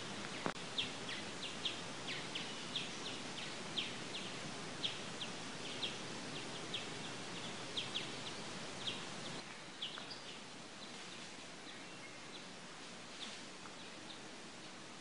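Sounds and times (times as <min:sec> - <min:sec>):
steady background hiss: 0:00.0 - 0:15.0
small bird chirping: 0:00.3 - 0:12.5.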